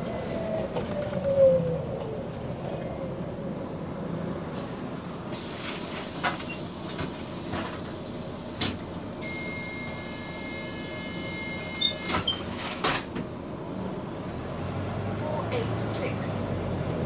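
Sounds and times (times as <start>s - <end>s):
bus cabin rumble: 0.0s - 17.0s.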